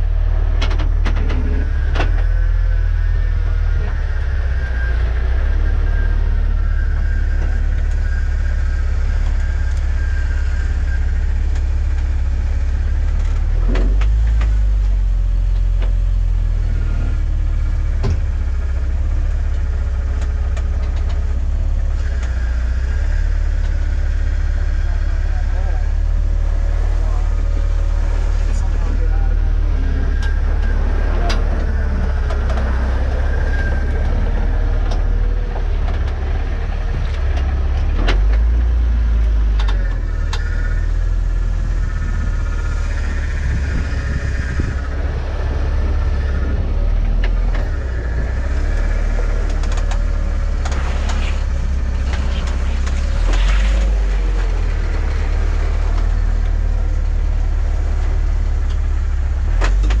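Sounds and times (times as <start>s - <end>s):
off-road vehicle engine rumbling: 0.0s - 60.0s.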